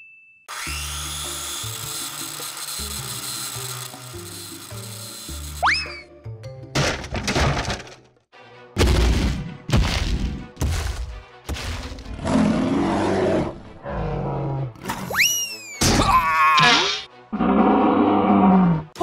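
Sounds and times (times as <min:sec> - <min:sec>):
background music: 0:00.7 - 0:19.0.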